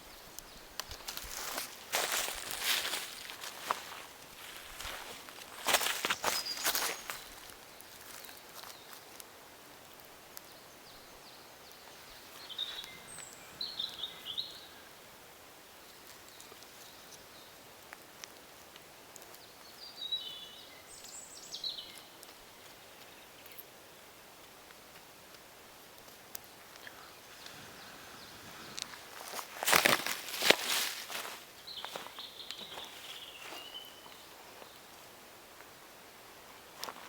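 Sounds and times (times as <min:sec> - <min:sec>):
songbird chirping: 0:00.0 - 0:09.3, 0:10.0 - 0:37.0
steady outdoor hiss: 0:00.0 - 0:37.0.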